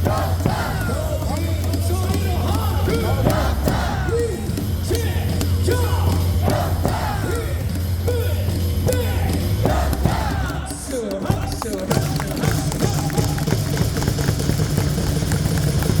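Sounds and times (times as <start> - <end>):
crowd chanting and yelling: 0.0 - 14.7
cheer song over loudspeakers: 0.0 - 16.0.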